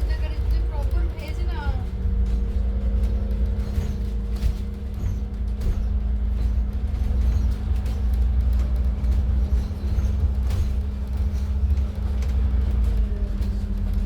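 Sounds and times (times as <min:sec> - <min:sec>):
bus engine rumble: 0:00.0 - 0:14.0
faint clicks and rattles: 0:00.0 - 0:14.0.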